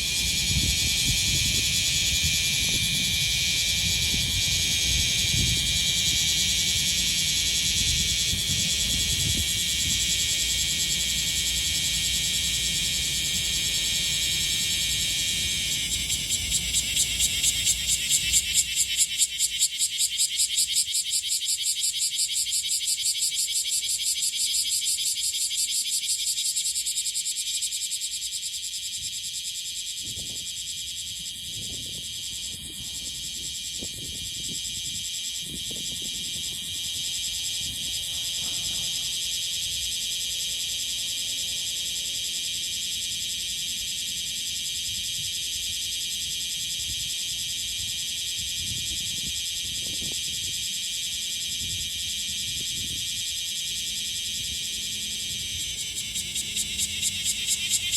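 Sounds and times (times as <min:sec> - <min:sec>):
cicada rasping buzz: 0:00.0 - 0:57.9.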